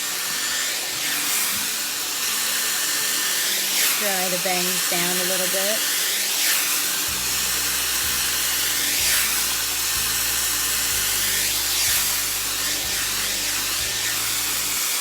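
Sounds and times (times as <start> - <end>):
hair styler blowing hot air: 0.0 - 15.0.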